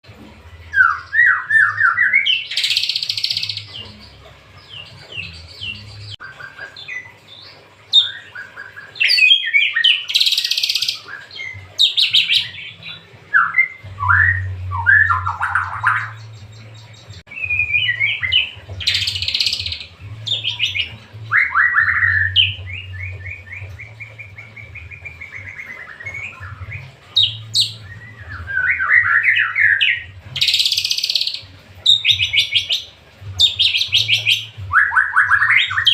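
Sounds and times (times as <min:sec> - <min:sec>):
bird whistled song and trills: 0:00.7 - 0:35.9.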